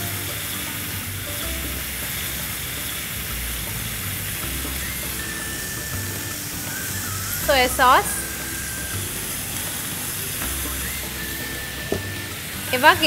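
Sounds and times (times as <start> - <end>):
chicken wings sizzling in oil: 0.0 - 13.0.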